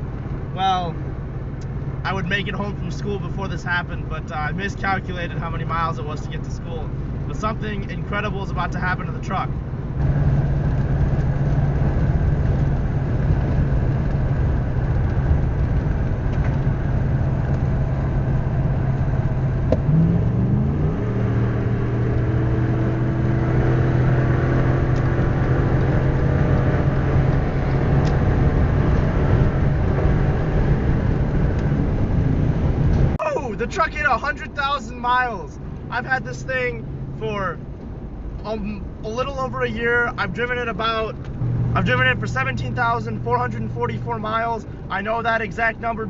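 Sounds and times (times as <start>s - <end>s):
pickup engine hum: 0.0s - 46.0s
road and tyre noise: 0.0s - 46.0s.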